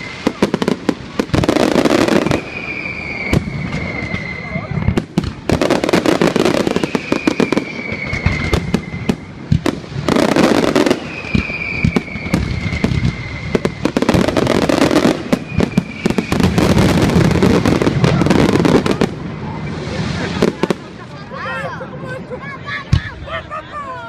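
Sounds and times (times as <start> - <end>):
firework whistle: 0.0 - 20.7
fireworks bangs and crackles: 0.0 - 21.4.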